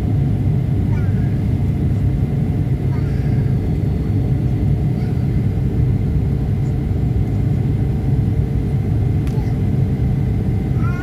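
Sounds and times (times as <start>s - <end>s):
engine and airflow rumble: 0.0s - 11.0s.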